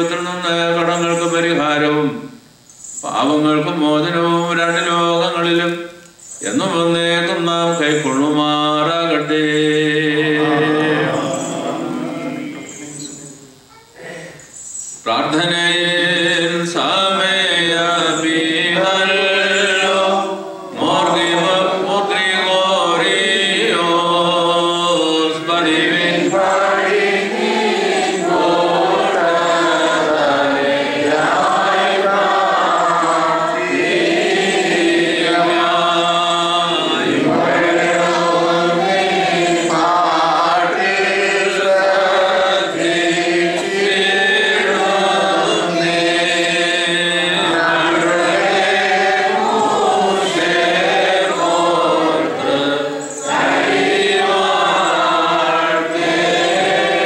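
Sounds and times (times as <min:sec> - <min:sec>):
voices singing liturgical chant: 0:00.0 - 0:02.4, 0:03.0 - 0:13.7, 0:15.0 - 0:57.0.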